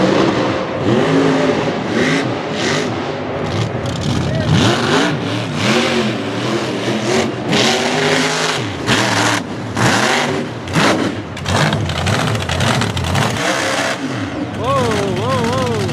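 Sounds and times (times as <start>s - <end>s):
truck engine revving hard: 0.0s - 15.9s.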